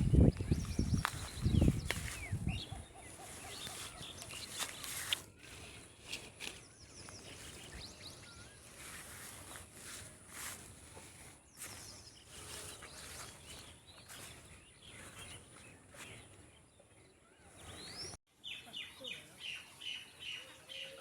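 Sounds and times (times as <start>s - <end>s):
birds chirping and calling: 0.0s - 21.0s
faint rural ambience: 0.0s - 21.0s.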